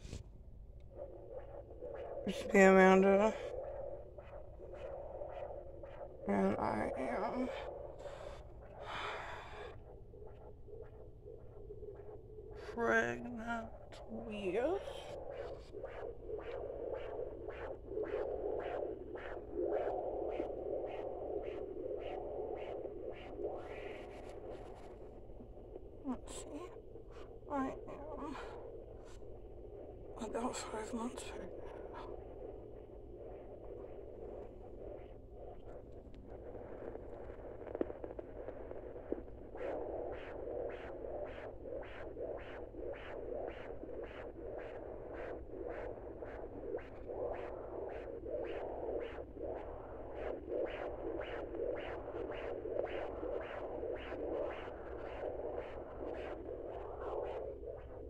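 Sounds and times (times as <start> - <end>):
fetal heartbeat doppler pulses: 0.0 - 58.0.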